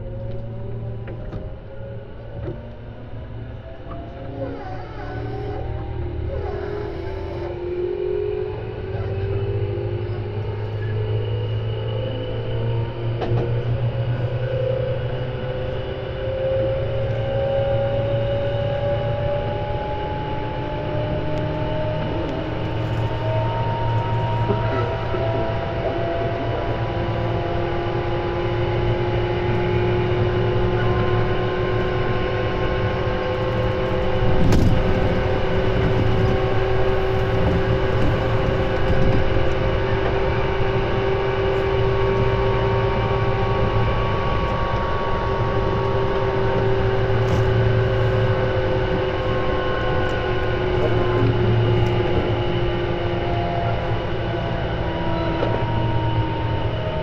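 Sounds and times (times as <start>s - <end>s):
electric train motor whine: 0.0s - 57.0s
wheels rumbling on rail: 0.0s - 57.0s.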